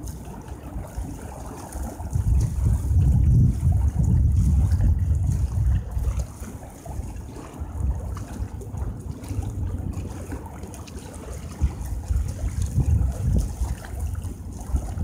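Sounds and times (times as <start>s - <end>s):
small waves lapping at seawall: 0.0s - 15.0s
wind buffeting microphone: 0.0s - 15.0s.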